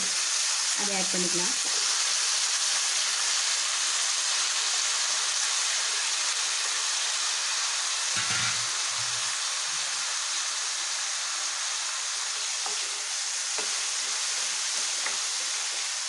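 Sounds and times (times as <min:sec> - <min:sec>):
eggplant sizzling in hot oil: 0:00.0 - 0:16.0.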